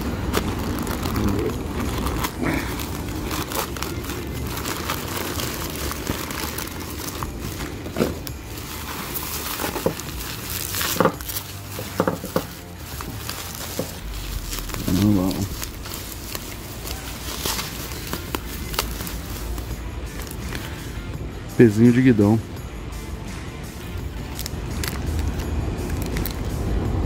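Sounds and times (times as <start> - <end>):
plastic mailer bag tearing: 0.0 - 20.9, 24.2 - 26.5
bubble wrap crinkling: 0.0 - 21.1, 24.1 - 26.9.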